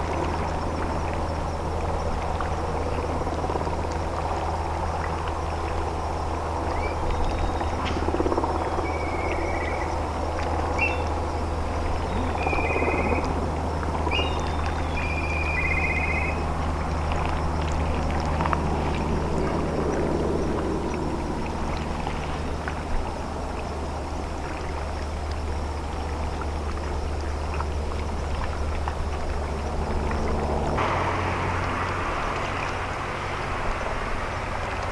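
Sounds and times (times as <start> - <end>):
ship engine droning: 0.0 - 34.9
water washing and churning: 0.0 - 34.9.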